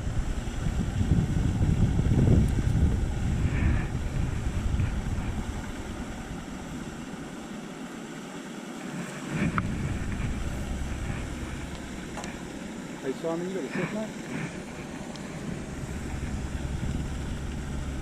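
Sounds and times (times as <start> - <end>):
wind buffeting microphone: 0.0 - 7.4, 9.2 - 18.0
steady hiss: 0.0 - 18.0.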